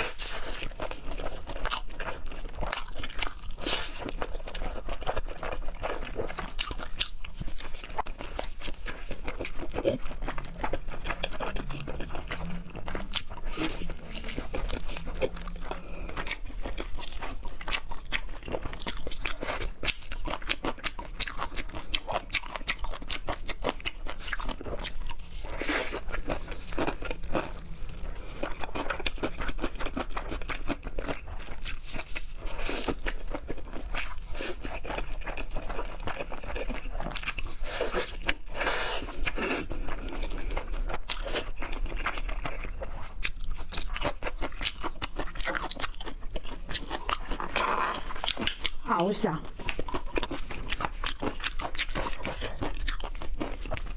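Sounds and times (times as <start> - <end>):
person crunching and chewing food: 0.0 - 53.9.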